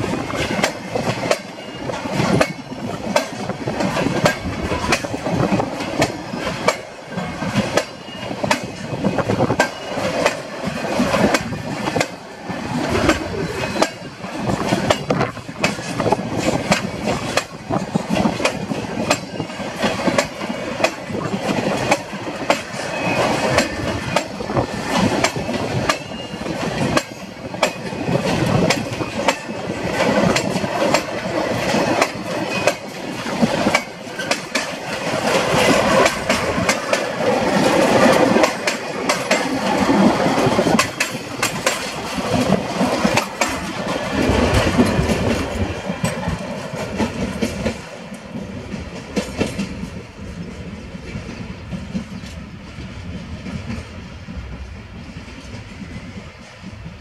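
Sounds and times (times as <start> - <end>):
train rumble: 0.0 - 57.0
train wheels clicking over rail joints: 0.0 - 57.0.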